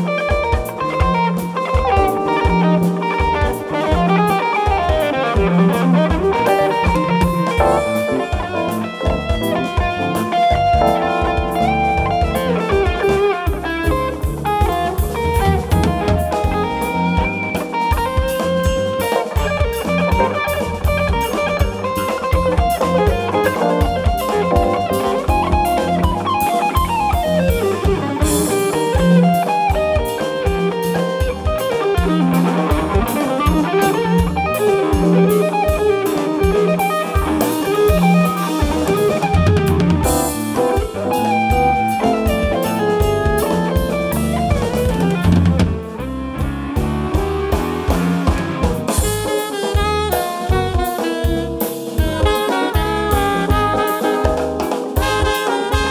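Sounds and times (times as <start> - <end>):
drum kit: 0.0 - 55.9
electric bass guitar: 0.0 - 55.9
guitar melodic runs: 0.0 - 55.9.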